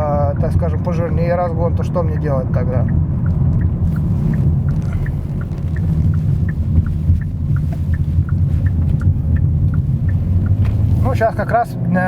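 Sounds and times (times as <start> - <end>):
car engine accelerating: 0.0 - 12.0
road rumble: 0.0 - 12.0.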